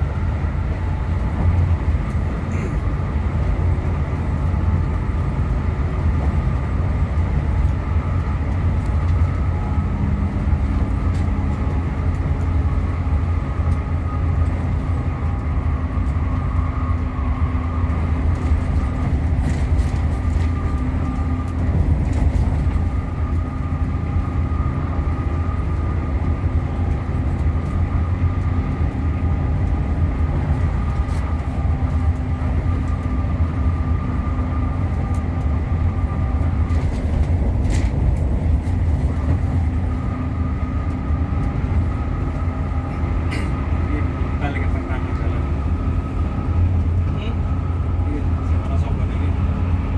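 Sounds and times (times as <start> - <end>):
coach engine and road rumble: 0.0 - 49.9.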